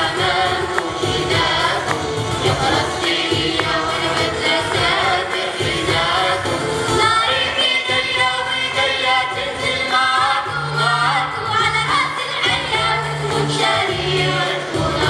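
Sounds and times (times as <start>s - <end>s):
girls choir singing in unison: 0.0s - 15.0s
keyboard: 0.0s - 15.0s.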